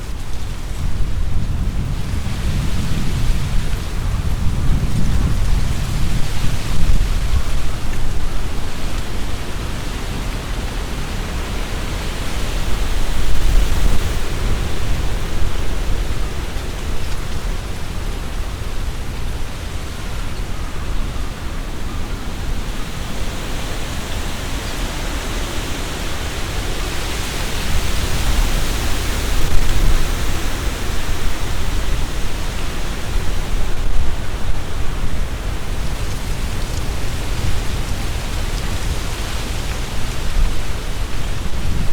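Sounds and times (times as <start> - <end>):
leaves rustling: 0.0 - 41.9
wind gusting through trees: 0.0 - 41.9
wind rumble on microphone: 0.0 - 41.9.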